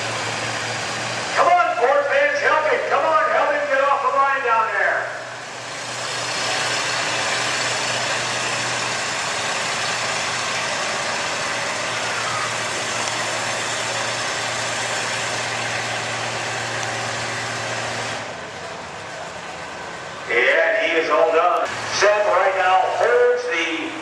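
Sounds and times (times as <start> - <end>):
pickup truck engine under load: 0.0 - 3.8, 5.2 - 23.4.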